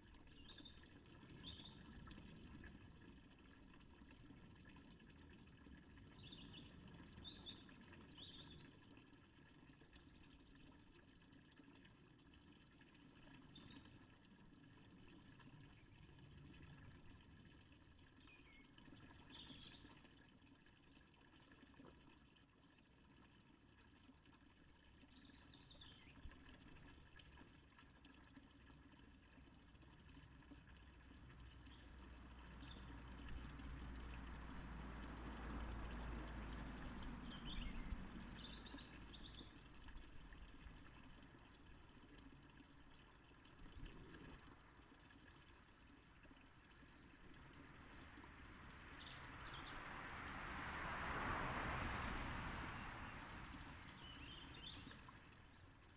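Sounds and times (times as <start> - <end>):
fountain water rushing: 0.0 - 22.2, 22.8 - 55.9.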